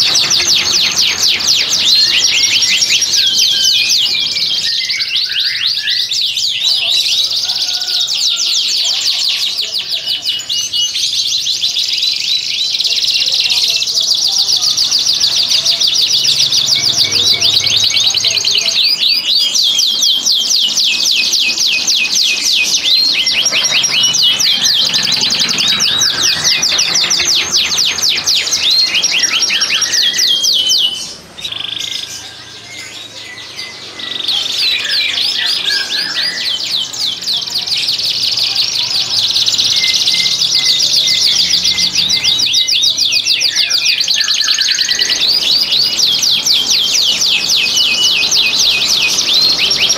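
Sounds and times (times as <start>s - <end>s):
canaries singing rolling trills: 0.0s - 49.9s.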